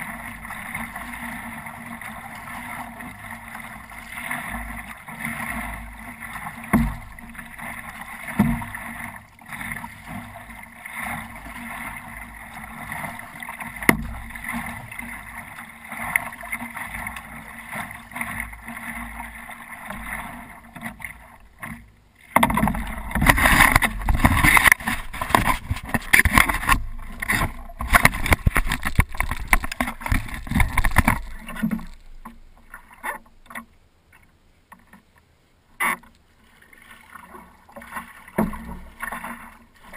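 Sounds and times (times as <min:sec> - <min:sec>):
rushing splashing water: 0:00.0 - 0:21.4, 0:22.4 - 0:33.2, 0:35.8 - 0:39.9
paddle strokes knocking and splashing: 0:00.0 - 0:35.1, 0:35.8 - 0:39.9
water lapping against a paddleboard: 0:00.0 - 0:39.9.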